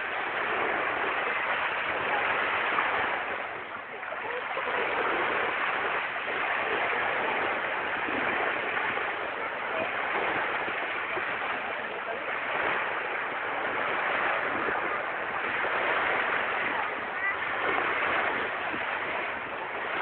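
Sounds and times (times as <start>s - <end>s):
small waves breaking on beach: 0.0s - 20.0s.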